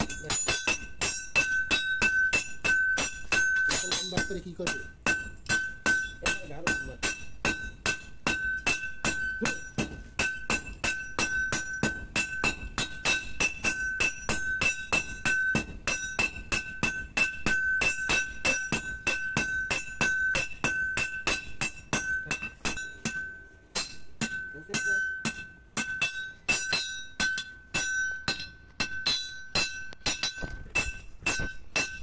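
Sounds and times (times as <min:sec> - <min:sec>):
anvil ringing: 0:00.0 - 0:32.0
hammers striking blade on anvil: 0:00.0 - 0:32.0.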